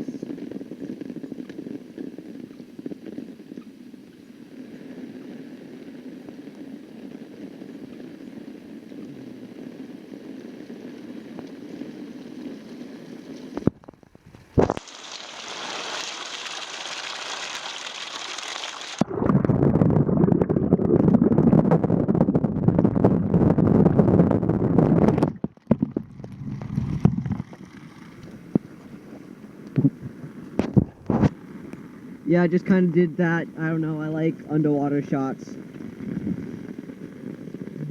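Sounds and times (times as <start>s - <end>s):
rain hissing: 0.0s - 21.7s, 23.4s - 37.9s
underwater churning and bubbling: 4.4s - 32.8s, 35.6s - 37.9s.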